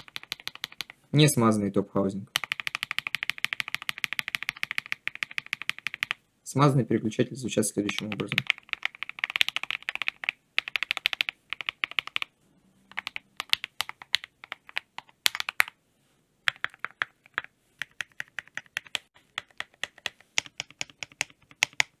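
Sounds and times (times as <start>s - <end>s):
mechanical keyboard typing: 0.0s - 1.0s, 2.3s - 6.2s, 7.9s - 12.3s, 12.9s - 15.8s, 16.5s - 22.0s.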